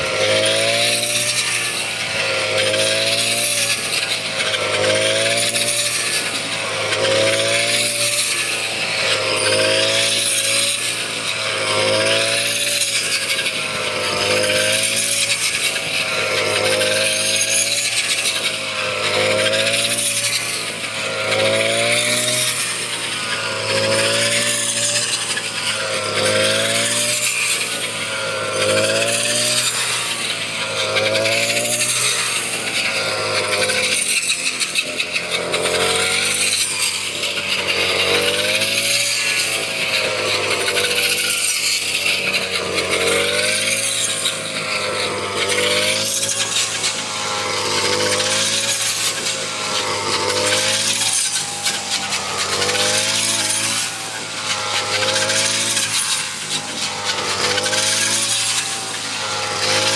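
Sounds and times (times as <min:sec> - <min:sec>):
harvesting machine engine: 0:00.0 - 0:59.9.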